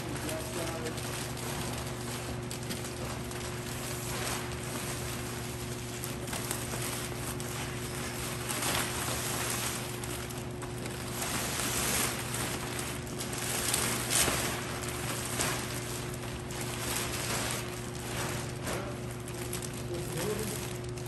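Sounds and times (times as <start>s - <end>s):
plastic bag rustling and crinkling: 0.0s - 21.0s
steady low hum: 0.0s - 21.0s.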